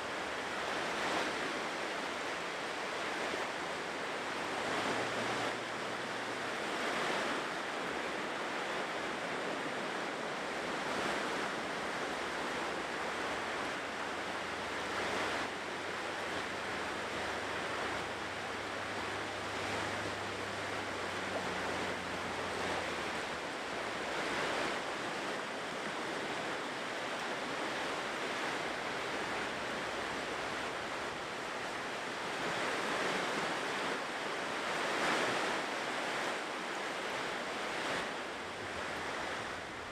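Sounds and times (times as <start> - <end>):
ocean surf washing onto shore: 0.0 - 39.9.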